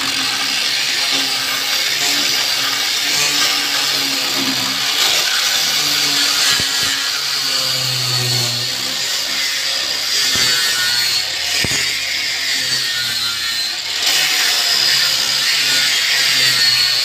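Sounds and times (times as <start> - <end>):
power tool running on wood: 0.0 - 17.0.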